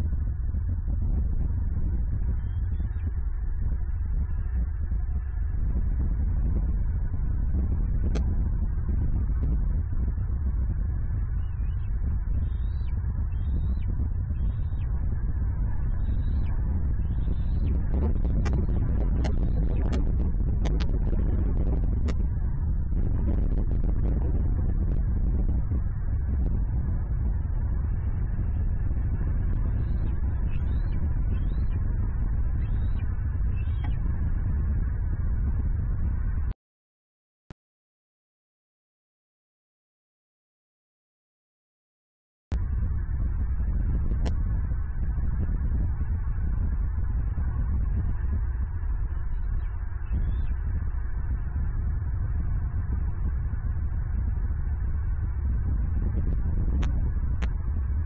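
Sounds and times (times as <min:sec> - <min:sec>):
steady low rumble: 0:00.0 - 0:36.6, 0:42.5 - 0:58.0.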